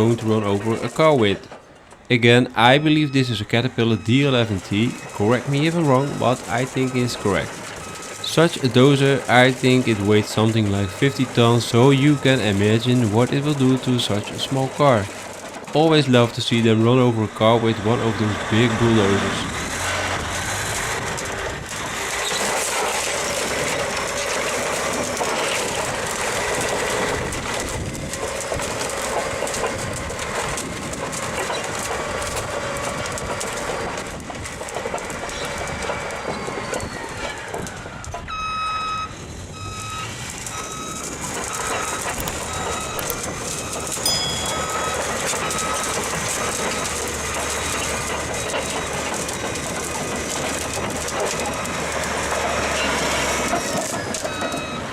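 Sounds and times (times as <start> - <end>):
reversing alarm beeping: 0.0 - 27.9, 35.3 - 54.9
bulldozer engine running: 0.0 - 54.9
steel tracks clattering: 0.0 - 54.9.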